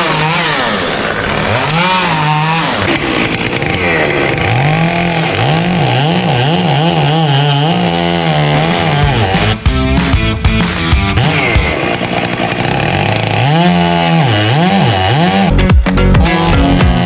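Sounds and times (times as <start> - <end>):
chainsaw engine revving: 0.0 - 15.6, 16.2 - 17.0.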